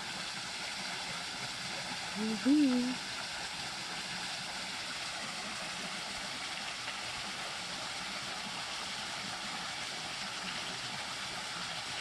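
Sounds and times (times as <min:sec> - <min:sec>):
water rushing over small waterfall: 0:00.0 - 0:12.0.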